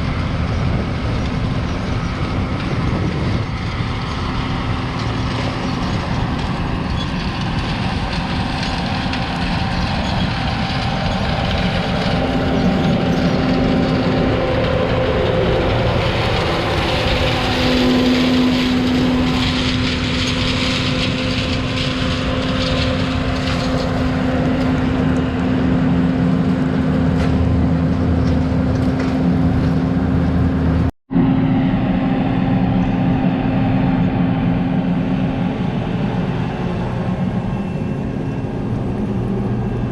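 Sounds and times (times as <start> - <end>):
large diesel engine running: 0.0 - 39.9.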